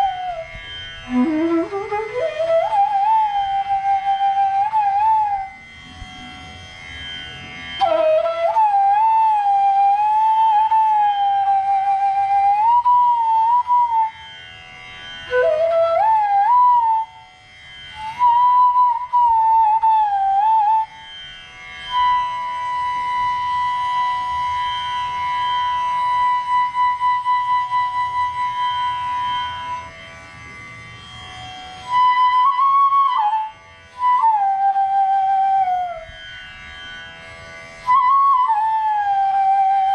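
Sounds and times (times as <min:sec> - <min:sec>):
bamboo flute playing held phrases: 0:00.0 - 0:07.0, 0:07.6 - 0:14.4, 0:15.2 - 0:30.0, 0:31.5 - 0:36.4, 0:37.8 - 0:39.9.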